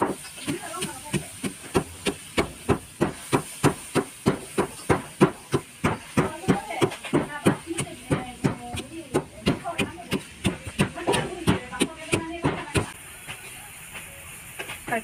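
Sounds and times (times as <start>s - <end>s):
wooden pestle pounding in mortar: 0.0s - 13.0s.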